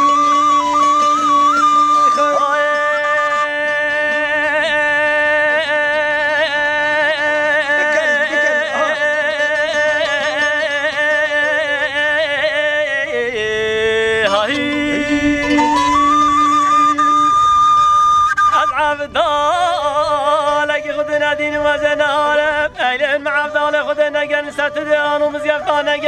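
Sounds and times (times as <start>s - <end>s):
wavering ornamented folk melody: 0.0s - 26.0s.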